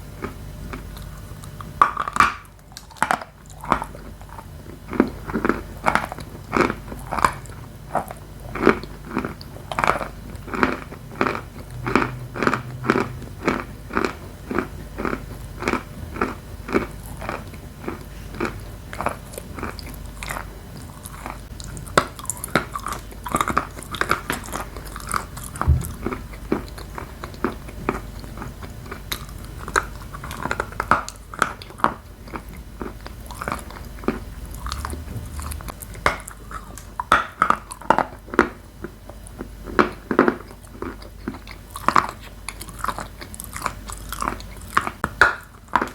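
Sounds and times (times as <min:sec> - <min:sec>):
chalk crunching while chewed: 0:00.2 - 0:45.9.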